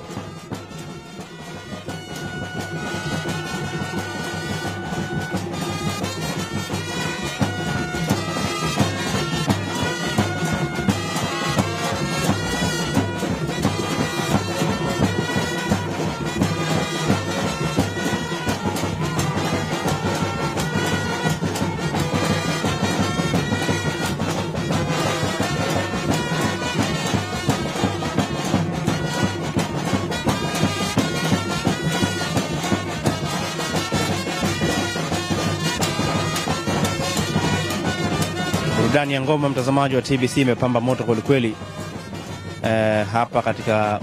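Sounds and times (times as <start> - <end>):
drumming with regular strikes: 0.0 - 44.0
wind instrument melody: 0.0 - 44.0.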